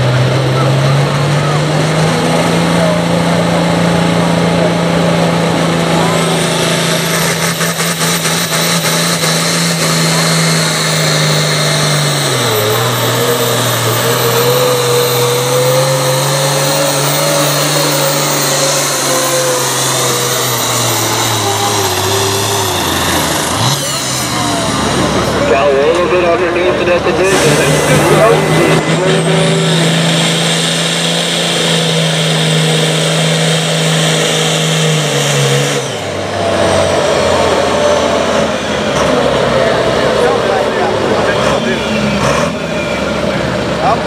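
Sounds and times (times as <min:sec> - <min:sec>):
tractor engine drone: 0:00.0 - 0:44.0.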